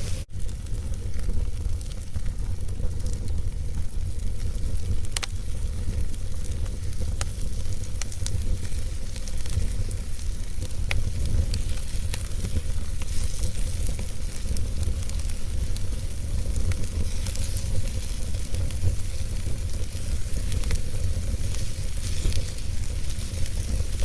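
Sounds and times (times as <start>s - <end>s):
fire crackling and popping: 0.0s - 24.0s
fire rumbling and hissing: 0.0s - 24.0s.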